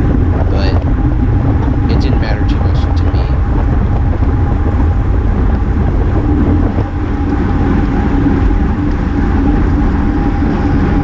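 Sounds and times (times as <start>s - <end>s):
faint constant hum: 0.0s - 11.0s
wind rushing over microphone: 0.0s - 11.0s.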